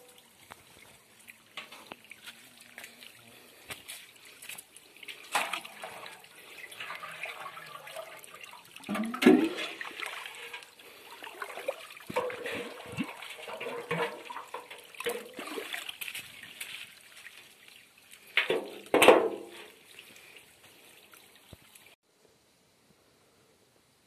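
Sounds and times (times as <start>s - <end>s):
water pouring onto soil: 0.0s - 21.9s.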